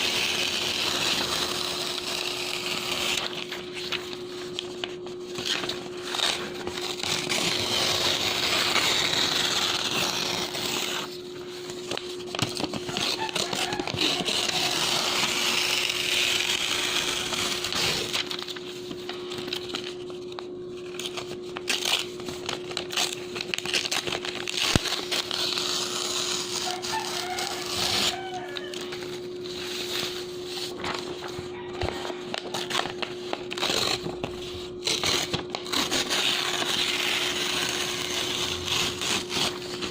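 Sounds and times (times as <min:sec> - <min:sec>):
paper crackling: 0:00.0 - 0:39.9
paper tearing: 0:00.0 - 0:39.9.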